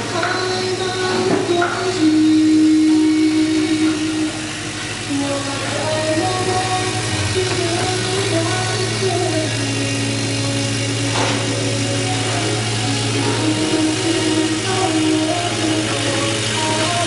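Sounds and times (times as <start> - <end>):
background music: 0.0 - 17.0
laser cutter machine hum: 0.0 - 17.0.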